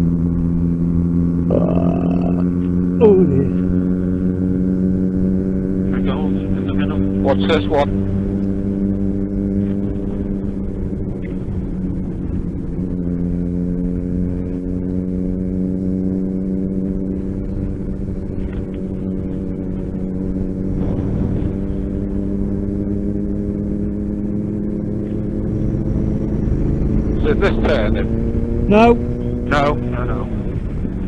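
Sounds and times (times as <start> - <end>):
motorcycle engine cruising: 0.0 - 31.0.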